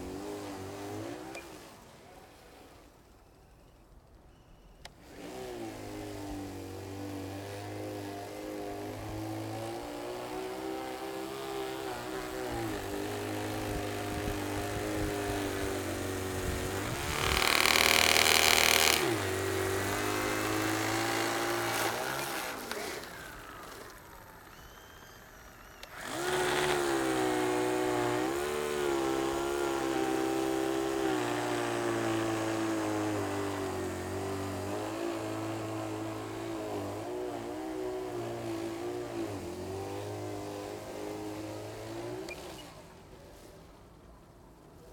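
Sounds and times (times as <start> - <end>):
snow blower motor running: 0.0 - 1.9, 4.9 - 42.7.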